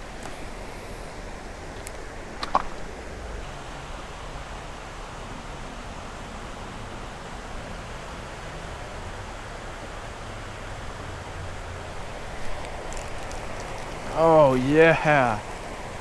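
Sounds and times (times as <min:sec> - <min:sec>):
creek water rushing over rapids: 0:00.0 - 0:16.0.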